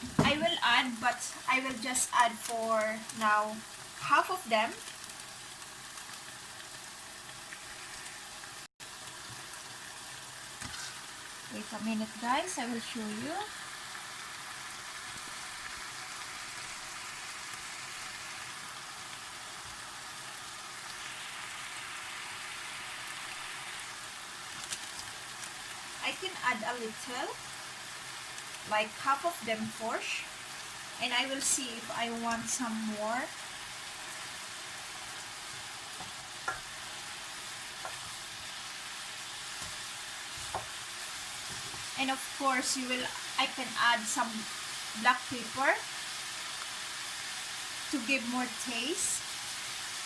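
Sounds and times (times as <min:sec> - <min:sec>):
chicken sizzling in a pot: 0:00.0 - 0:50.0.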